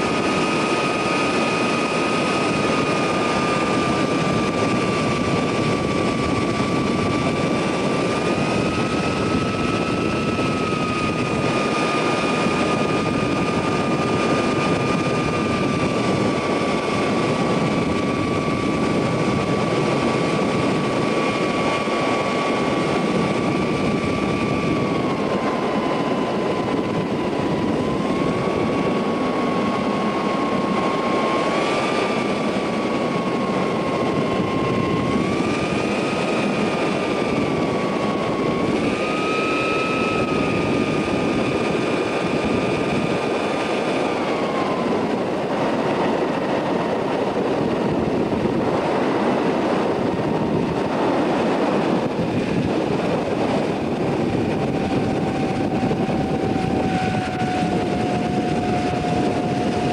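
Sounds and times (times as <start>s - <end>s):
aircraft engine and propeller: 0.0s - 59.9s
wind rush: 0.0s - 59.9s.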